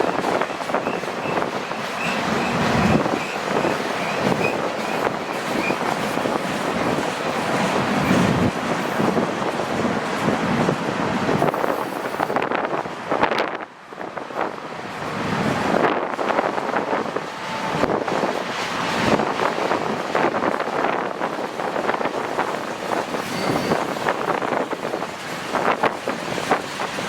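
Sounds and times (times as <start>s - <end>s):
freight train rolling on rails: 0.0s - 27.0s.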